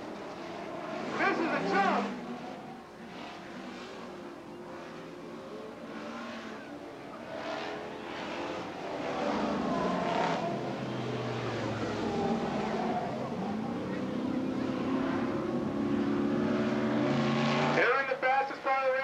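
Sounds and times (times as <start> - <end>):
race truck engines revving: 0.0 - 19.0.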